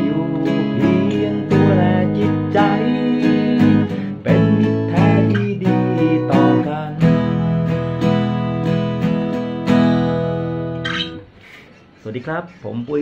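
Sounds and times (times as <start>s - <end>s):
acoustic guitar strumming: 0.0s - 11.4s.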